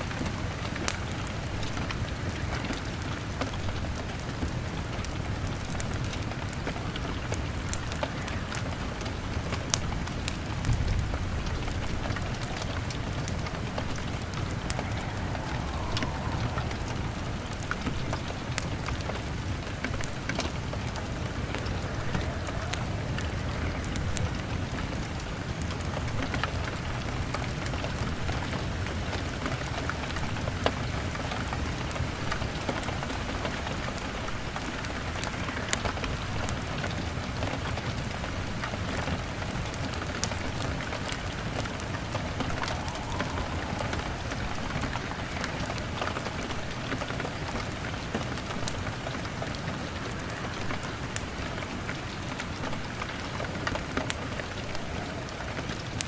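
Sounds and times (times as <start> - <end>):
log fire crackling: 0.0 - 56.0
rain on a window: 0.0 - 56.0.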